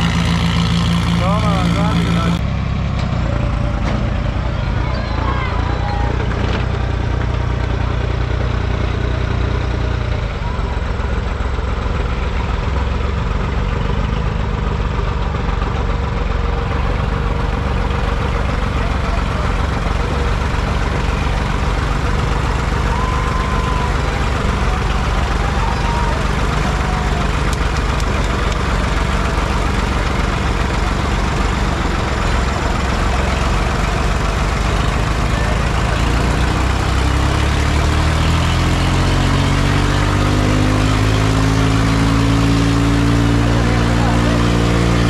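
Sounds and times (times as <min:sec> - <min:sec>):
tractor diesel engines running: 0:00.0 - 0:45.0.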